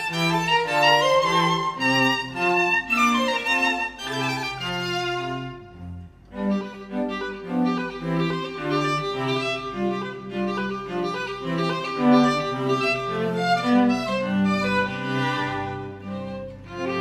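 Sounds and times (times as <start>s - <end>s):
cello: 0.0s - 17.0s
violin melody: 0.0s - 17.0s.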